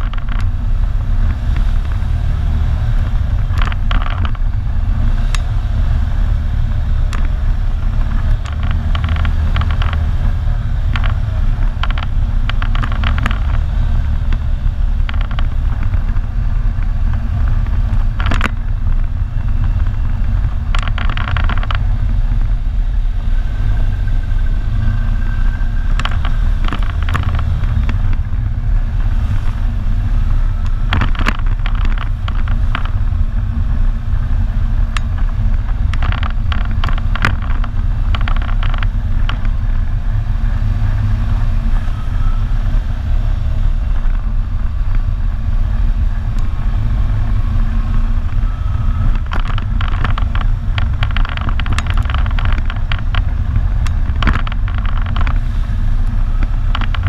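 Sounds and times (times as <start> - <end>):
knocks and rattles over bumps: 0.0 - 22.6, 25.7 - 40.2, 46.3 - 57.0
atv engine rumble: 0.0 - 57.0.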